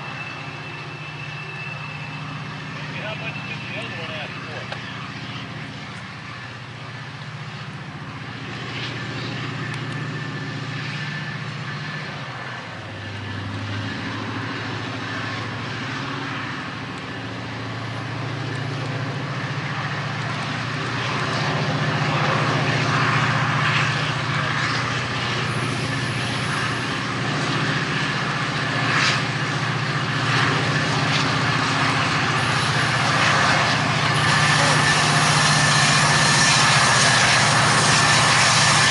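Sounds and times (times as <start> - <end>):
diesel locomotive engine: 0.0 - 38.9
gusting wind: 0.0 - 38.9.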